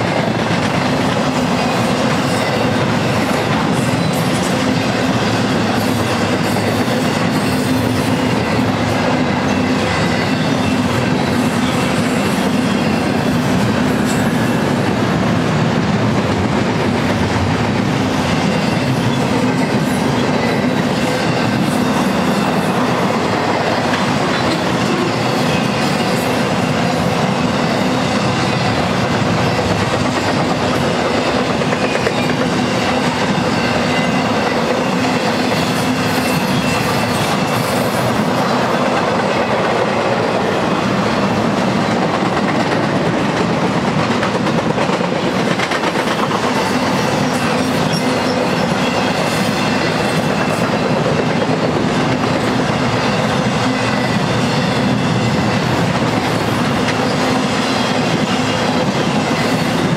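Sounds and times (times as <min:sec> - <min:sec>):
freight train wheels on rail: 0:00.0 - 0:59.9.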